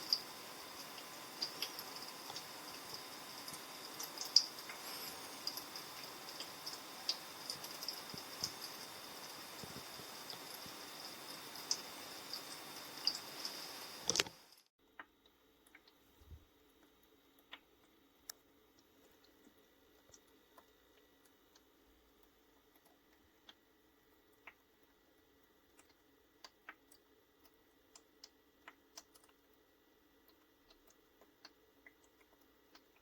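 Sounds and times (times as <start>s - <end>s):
soft irregular clicks: 0.1s - 33.0s.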